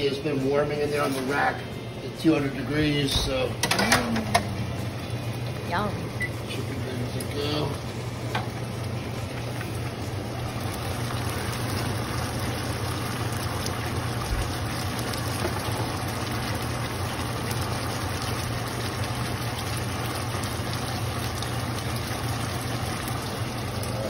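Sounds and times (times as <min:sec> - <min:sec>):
steady low hum: 0:00.0 - 0:24.0
sauce simmering in a frying pan: 0:04.2 - 0:24.0.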